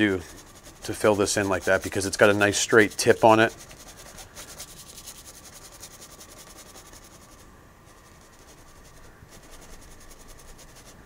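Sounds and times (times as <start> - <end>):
brush scrubbing paint on canvas: 0.0 - 11.0.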